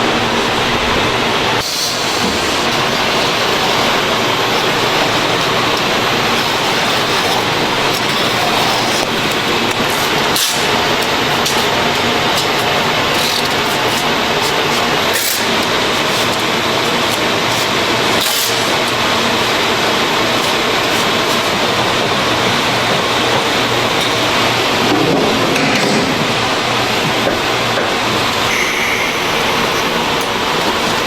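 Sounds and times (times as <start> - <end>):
machinery running: 0.0 - 31.0.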